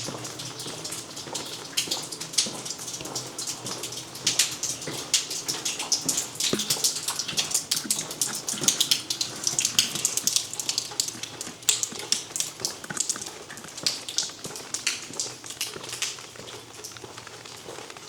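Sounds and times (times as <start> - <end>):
rain dripping and splashing: 0.0 - 18.0.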